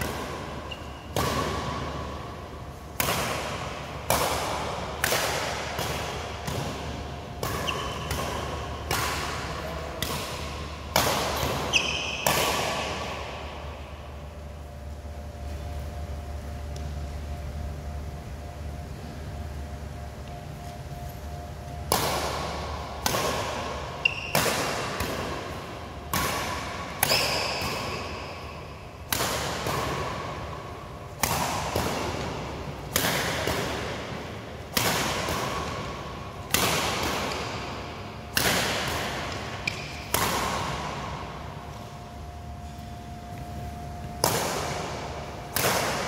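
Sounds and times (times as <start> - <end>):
racket hitting shuttlecock: 0.0 - 18.9, 19.7 - 46.0.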